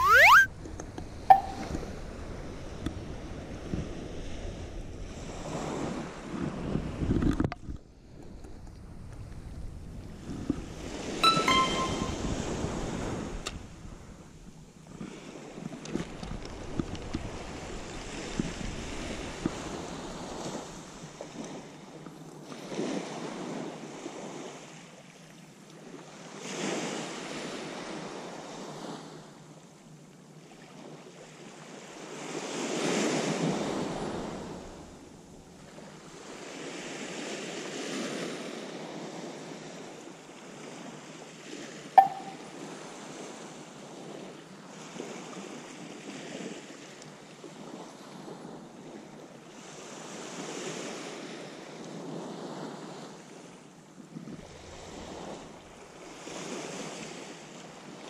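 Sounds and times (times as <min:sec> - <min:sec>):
small waves breaking on shore: 0:02.0 - 0:07.1, 0:12.2 - 0:41.9, 0:42.6 - 0:58.0.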